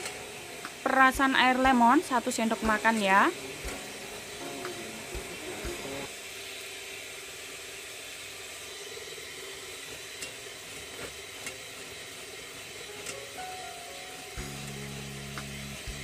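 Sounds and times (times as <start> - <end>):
electric hand mixer whisking: 0.0 - 16.0.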